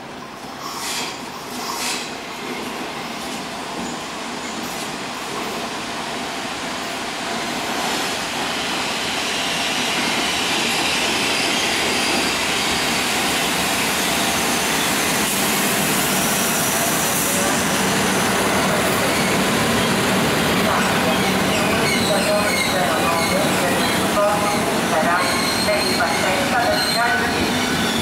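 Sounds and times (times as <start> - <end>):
train rail rumble and hiss: 0.0 - 28.0.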